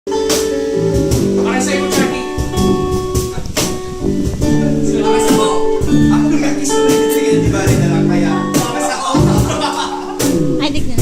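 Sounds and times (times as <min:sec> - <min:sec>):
guitar chords: 0:00.1 - 0:11.0
sharp percussive hits: 0:00.3 - 0:11.0.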